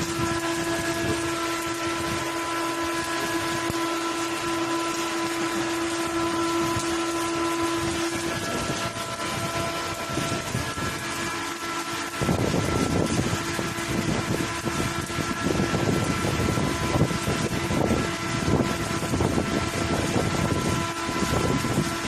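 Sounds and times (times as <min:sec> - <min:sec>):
machine hum: 0:00.0 - 0:22.0
welding arc crackling: 0:00.0 - 0:22.0.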